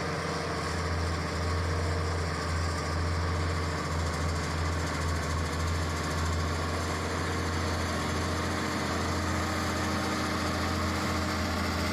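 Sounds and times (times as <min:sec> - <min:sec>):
bulldozer diesel engine droning: 0:00.0 - 0:11.9.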